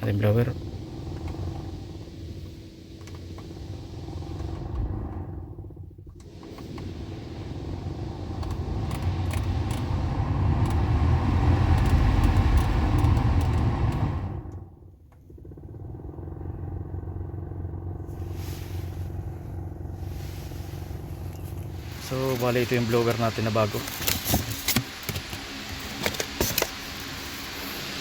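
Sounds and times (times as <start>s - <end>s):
rattling blower fan motor: 0.0s - 28.0s.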